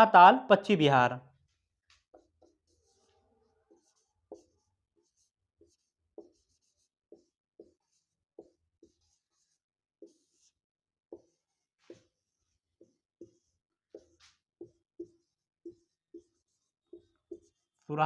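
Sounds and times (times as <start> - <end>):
pen scratching while writing: 1.4 - 17.9.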